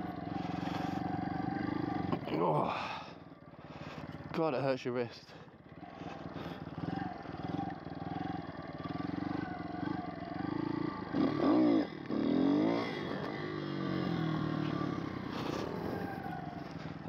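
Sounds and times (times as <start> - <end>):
pit bike engine running: 0.0 - 17.0
motorbike engine revving hard: 0.1 - 2.6, 5.8 - 17.0.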